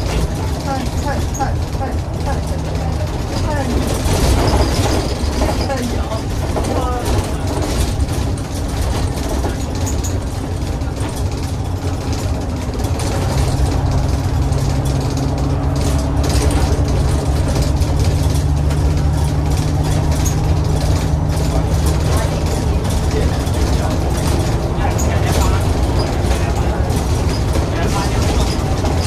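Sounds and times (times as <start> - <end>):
bus diesel engine running: 0.0 - 29.0
small rattles and clicks: 0.0 - 29.0.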